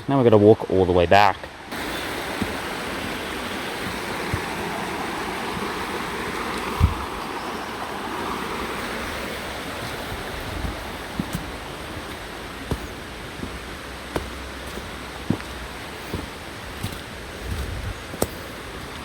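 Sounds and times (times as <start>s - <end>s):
creek water rushing: 0.4s - 19.0s
soft thumps: 1.4s - 7.3s, 8.8s - 19.0s.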